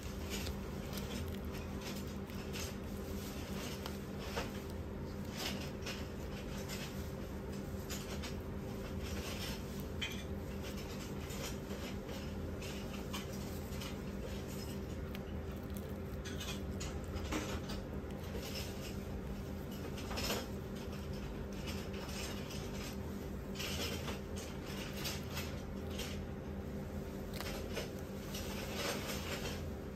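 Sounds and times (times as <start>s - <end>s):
disposable gloves rustling: 0.0s - 29.9s
steady low hum: 0.0s - 29.9s.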